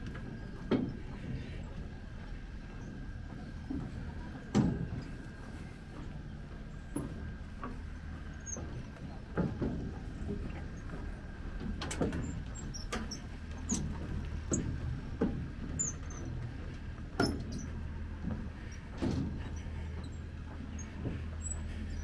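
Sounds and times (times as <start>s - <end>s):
footsteps on a bridge: 0.0s - 22.0s
steady low hum: 0.0s - 22.0s.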